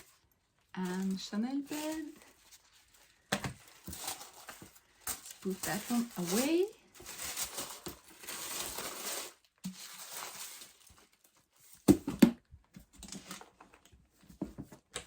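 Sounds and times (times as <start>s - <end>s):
paper and packaging rustling: 0.0s - 15.0s.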